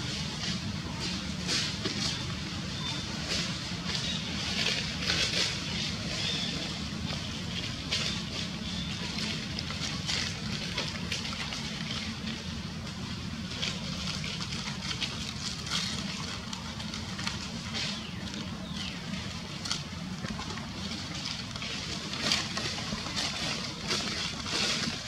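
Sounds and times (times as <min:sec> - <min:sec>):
dry leaves and wood crackling: 0:00.0 - 0:25.0
low background hum: 0:00.0 - 0:25.0.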